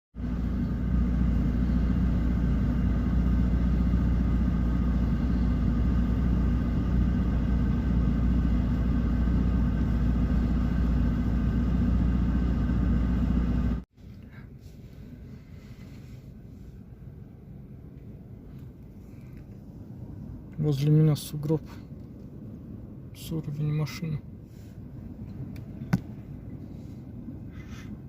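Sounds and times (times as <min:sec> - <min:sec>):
car engine hum from inside: 0:00.2 - 0:28.0.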